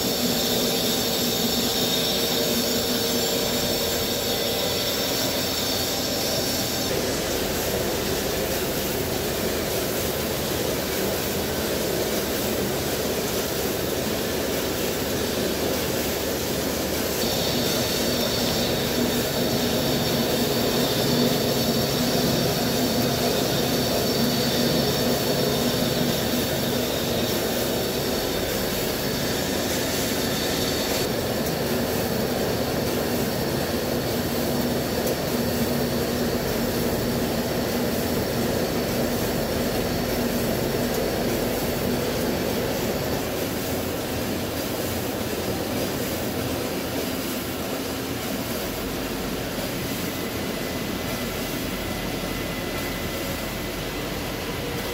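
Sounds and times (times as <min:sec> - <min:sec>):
lathe cutting steel: 0:00.0 - 0:44.3.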